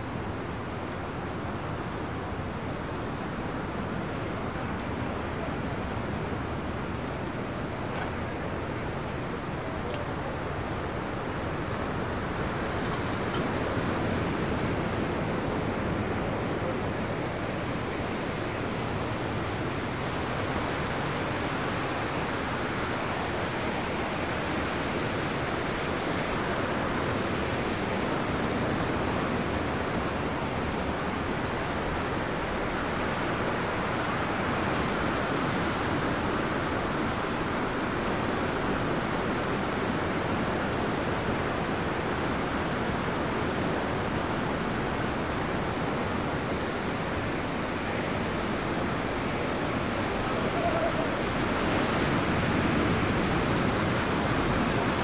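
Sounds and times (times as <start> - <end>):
ocean surf: 0.0 - 55.0
wind: 0.0 - 55.0.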